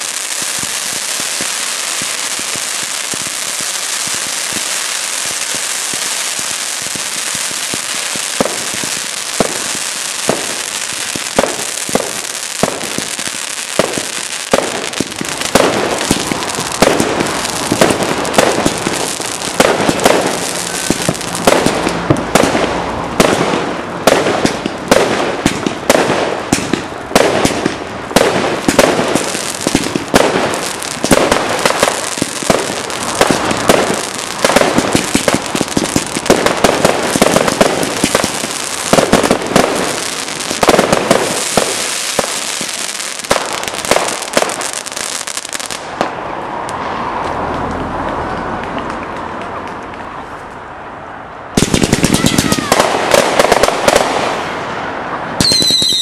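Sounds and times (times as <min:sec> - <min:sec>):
small firework pops: 0:00.0 - 0:13.1, 0:13.8 - 0:50.1, 0:51.6 - 0:54.3
loud firework bangs: 0:00.0 - 0:46.2, 0:51.5 - 0:56.0.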